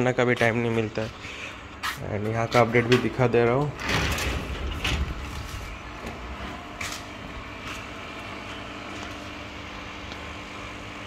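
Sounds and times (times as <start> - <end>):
electric pump hum: 0.0 - 11.0.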